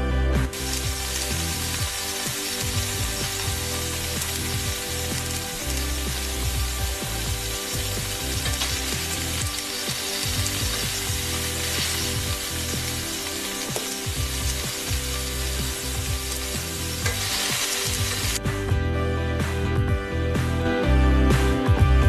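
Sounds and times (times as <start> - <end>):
hot oil sizzling and popping: 0.3 - 18.8.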